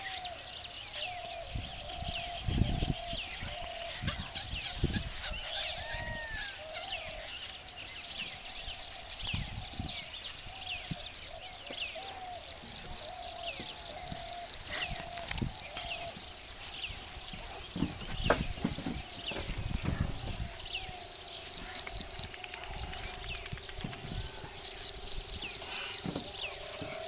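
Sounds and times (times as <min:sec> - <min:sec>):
birds calling and chirping: 0:00.0 - 0:27.0.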